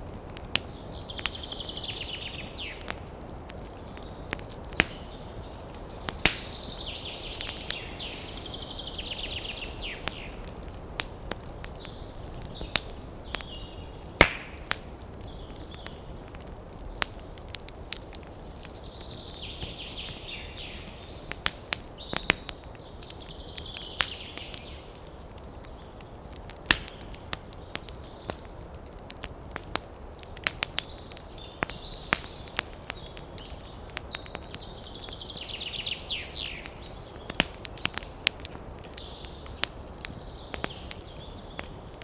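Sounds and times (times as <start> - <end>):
campfire crackling: 0.0 - 42.0.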